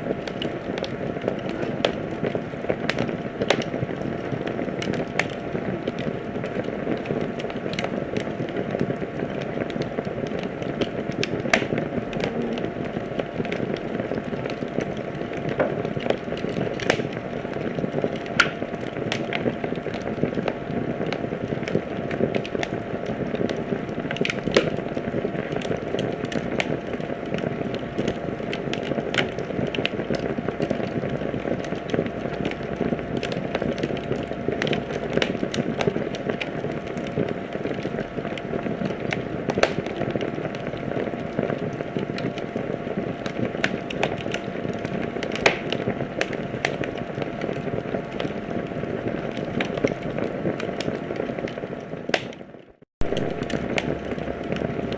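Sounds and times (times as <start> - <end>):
fire crackles and pops: 0.0 - 54.9.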